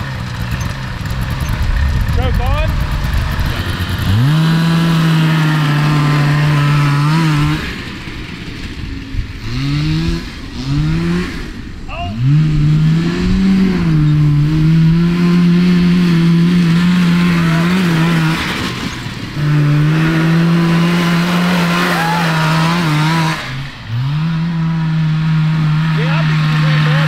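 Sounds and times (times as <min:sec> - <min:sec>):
two-stroke snowmobile engine revving: 0:00.0 - 0:27.0.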